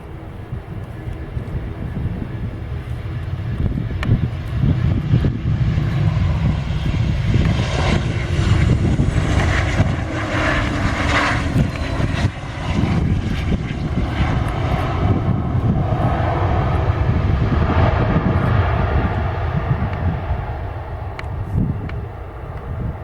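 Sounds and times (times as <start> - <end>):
airliner engines running: 0.0 - 23.0
low steady rumble: 0.0 - 23.0.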